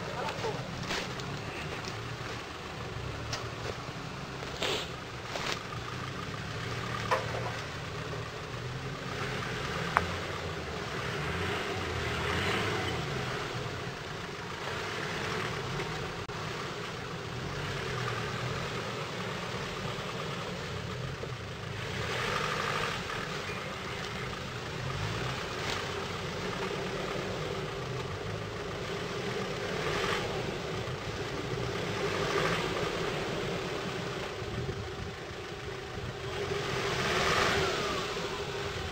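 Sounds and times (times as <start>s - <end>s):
diesel engine at low revs: 0.0s - 38.9s.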